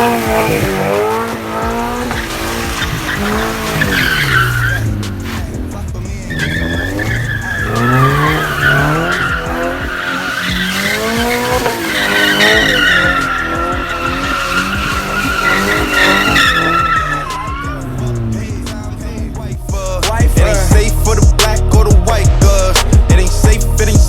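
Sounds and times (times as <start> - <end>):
tyres screeching: 0.0 - 23.9
car engine revving: 0.0 - 24.0.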